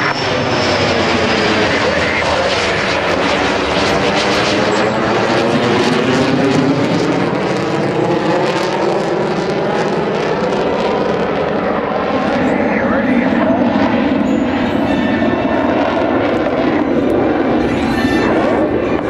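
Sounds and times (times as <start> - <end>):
military aircraft flying past: 0.0 - 19.0.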